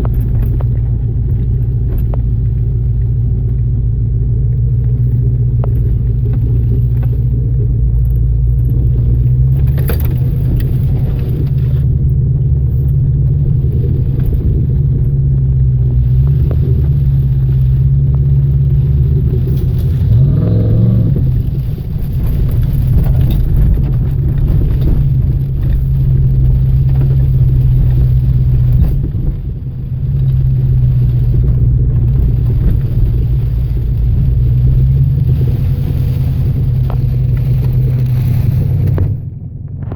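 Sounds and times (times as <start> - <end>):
off-road vehicle engine running: 0.0 - 39.9
rumble from rough track: 0.0 - 39.9.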